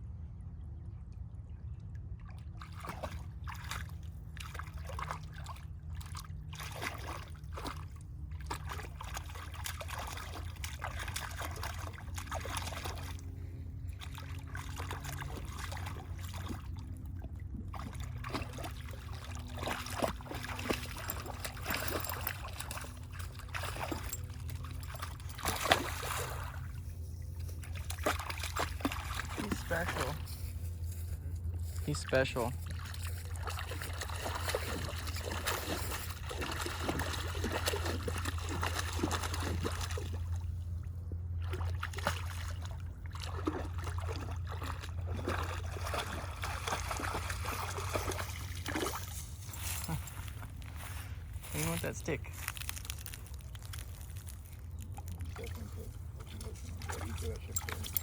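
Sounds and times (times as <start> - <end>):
dog splashing in shallow water: 2.2 - 30.8, 31.8 - 58.0.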